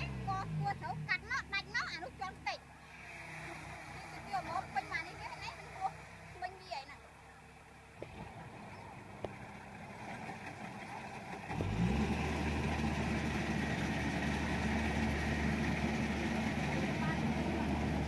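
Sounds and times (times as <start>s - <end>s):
diesel engine revving: 0.0s - 18.0s.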